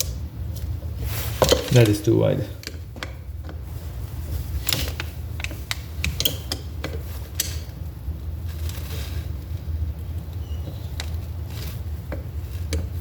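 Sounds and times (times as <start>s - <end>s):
light clicks and scrapes of metal parts: 0.0s - 13.0s
steady low hum: 0.0s - 13.0s.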